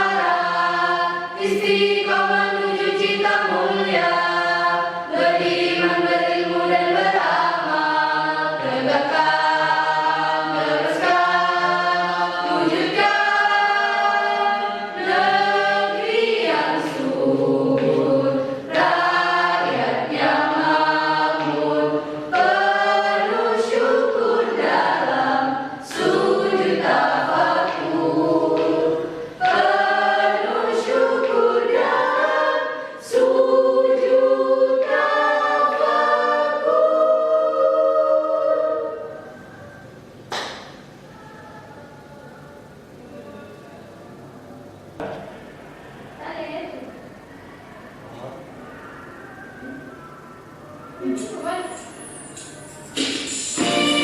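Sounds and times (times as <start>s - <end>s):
choir singing: 0.0s - 40.0s, 47.8s - 54.0s.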